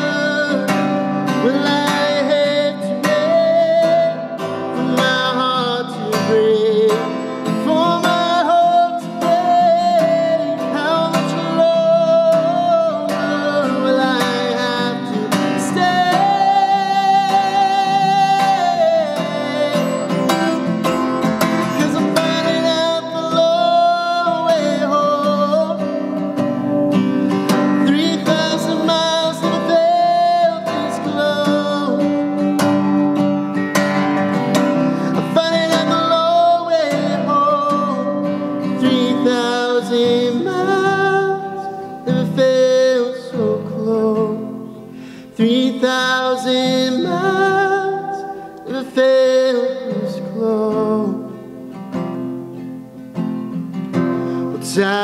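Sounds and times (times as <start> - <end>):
man singing: 0.0 - 32.9, 34.3 - 51.8, 54.4 - 55.0
acoustic guitar strumming: 0.0 - 55.0.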